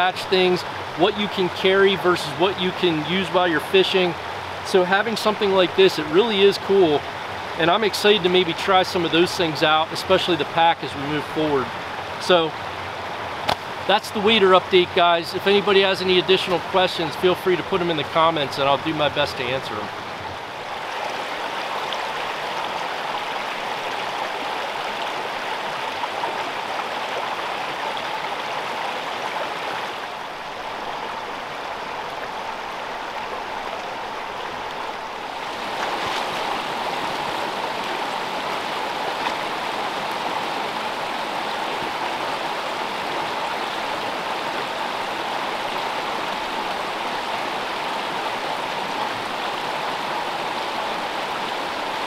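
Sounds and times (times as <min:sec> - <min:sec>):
stream babbling over rocks: 0:00.0 - 0:52.0.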